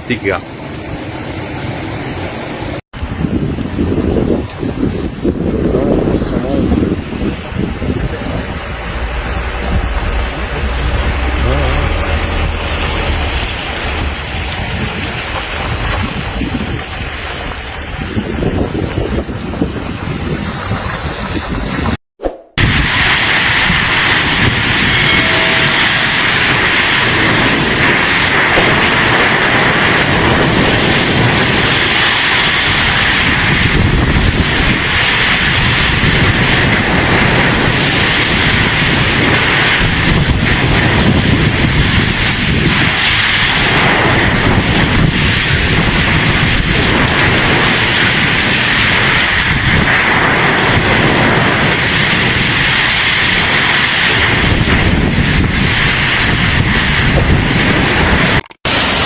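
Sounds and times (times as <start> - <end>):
floodwater rushing: 3.0 - 22.0, 22.6 - 59.0
wind buffeting microphone: 3.0 - 22.0, 22.6 - 58.4.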